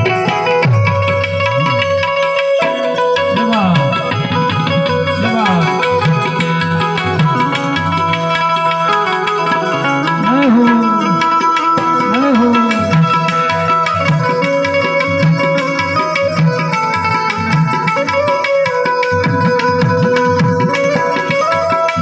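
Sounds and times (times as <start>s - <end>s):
harmonium melody and drone: 0.0s - 22.0s
tabla rhythm: 0.0s - 22.0s.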